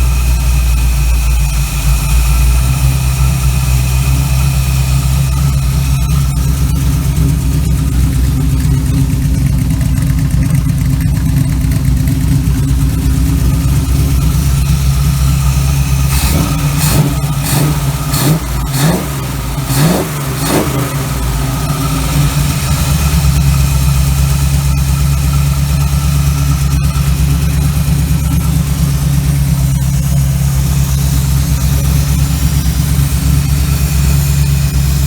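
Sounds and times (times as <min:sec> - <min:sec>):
engine idling and revving: 0:00.0 - 0:35.0.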